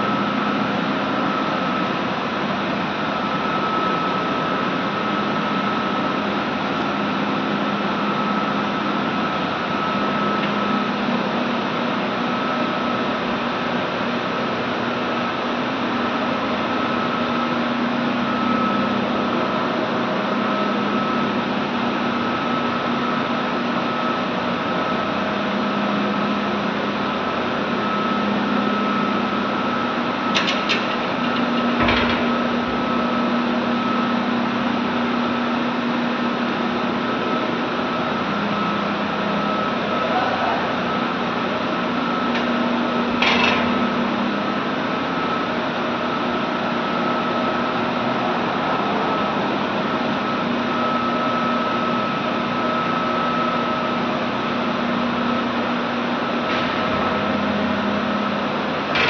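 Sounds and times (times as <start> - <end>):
boiler machinery rushing and humming: 0.0 - 59.0
high-pitched whine: 0.0 - 59.0.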